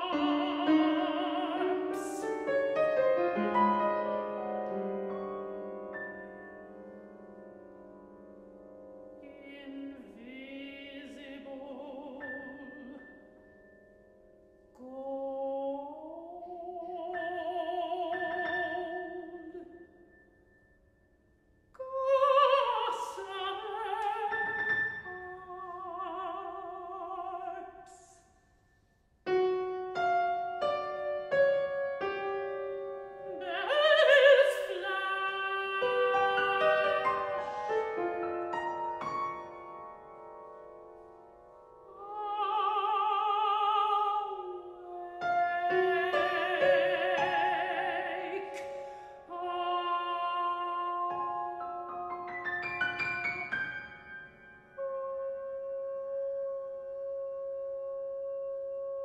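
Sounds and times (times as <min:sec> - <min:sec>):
grand piano: 0:00.0 - 0:28.2, 0:29.2 - 0:59.0.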